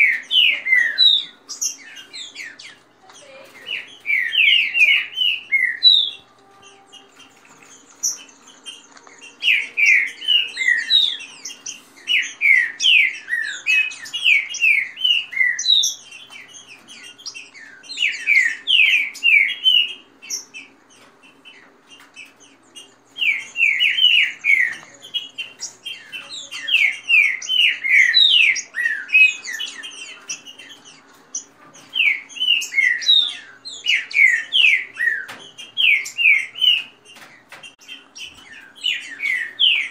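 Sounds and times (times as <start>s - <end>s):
birds singing whistled notes: 0.0s - 39.9s.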